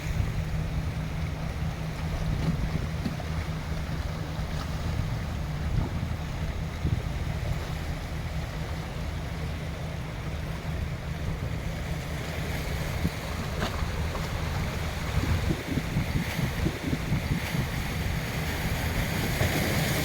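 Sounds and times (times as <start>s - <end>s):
wind buffeting microphone: 0.0s - 8.3s, 10.7s - 20.0s
sea waves washing: 0.0s - 20.0s.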